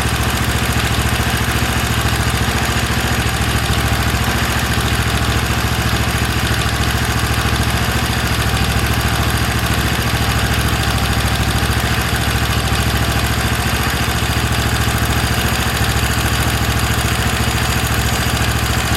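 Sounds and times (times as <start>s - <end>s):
small engine idling: 0.0s - 18.9s.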